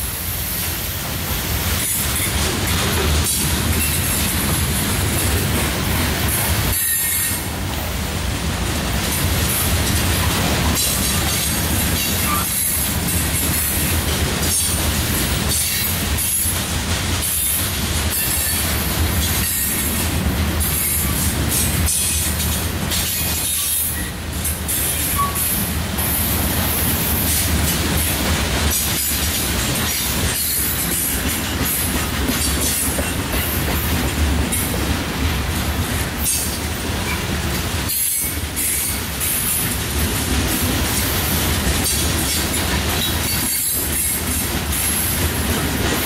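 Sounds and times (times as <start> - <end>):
freight train cars rolling: 0.0 - 46.0
steel wheels on rail: 0.0 - 46.0.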